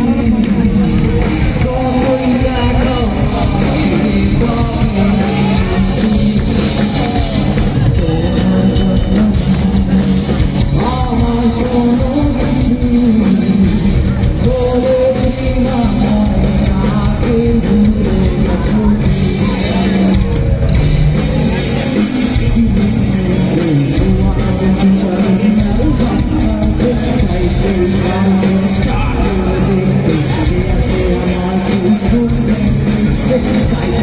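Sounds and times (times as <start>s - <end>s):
drum kit: 0.0s - 34.0s
electric guitars: 0.0s - 34.0s
singer's voice: 0.0s - 34.0s.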